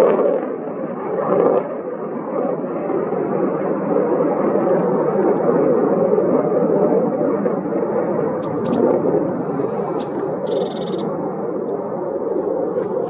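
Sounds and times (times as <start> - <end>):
jet fighter roar: 0.0 - 13.0.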